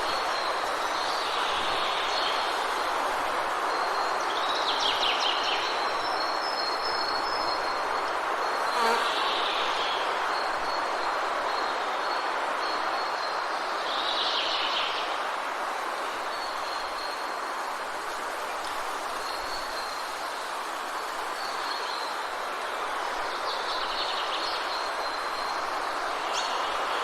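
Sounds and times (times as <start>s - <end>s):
rain falling in trees: 0.0s - 27.0s.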